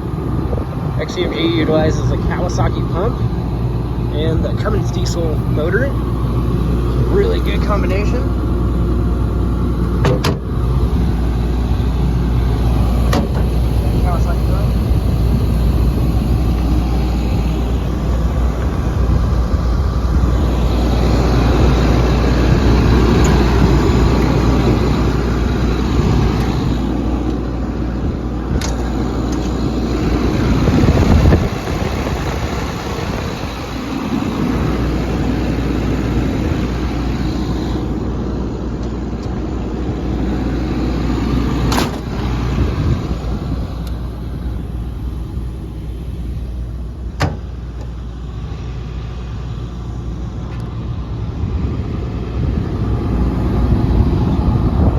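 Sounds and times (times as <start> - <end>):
excavator diesel engine droning: 0.0 - 54.9.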